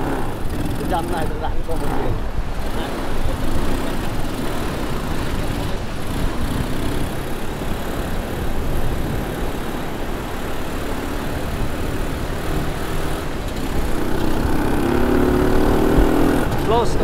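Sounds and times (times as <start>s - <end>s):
quad bike engine: 0.0s - 17.0s
wind on microphone: 0.0s - 17.0s.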